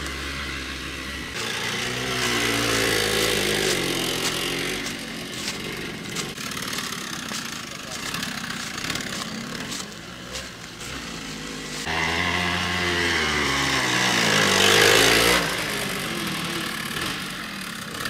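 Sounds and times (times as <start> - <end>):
motorcycle engine over rough ground: 0.0 - 18.0.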